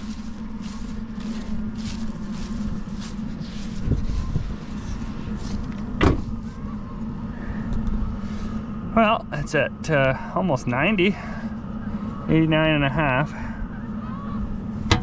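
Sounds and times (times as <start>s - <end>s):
draft fan humming: 0.0s - 15.0s.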